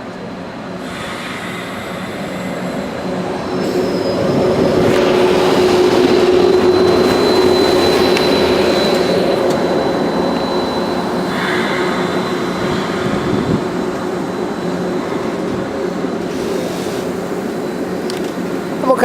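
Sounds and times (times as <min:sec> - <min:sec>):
electric train whine: 0:00.0 - 0:19.0
train wheels rumbling: 0:00.0 - 0:19.0.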